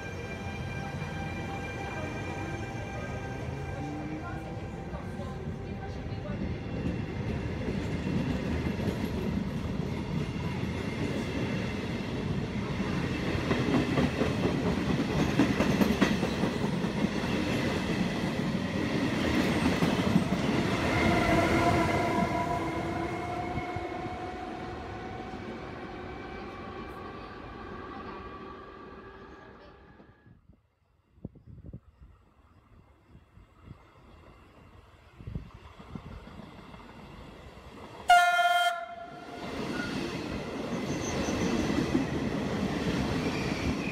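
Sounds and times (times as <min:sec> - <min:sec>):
train wheels rumbling on rails: 0:00.0 - 0:30.2, 0:34.3 - 0:43.9
train whine: 0:00.0 - 0:30.5, 0:31.9 - 0:43.9.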